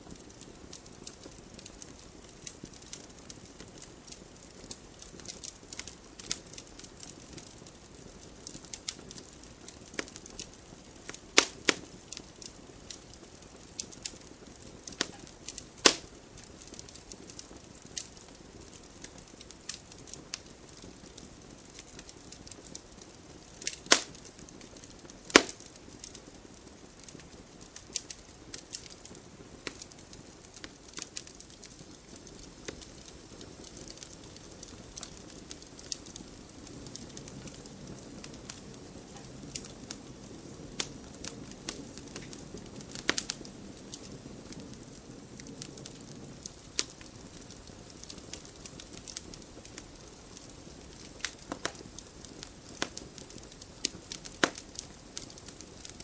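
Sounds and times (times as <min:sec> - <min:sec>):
fire crackling: 0:00.0 - 0:56.0
fire popping: 0:00.0 - 0:56.0
wood fire hissing: 0:00.0 - 0:56.0.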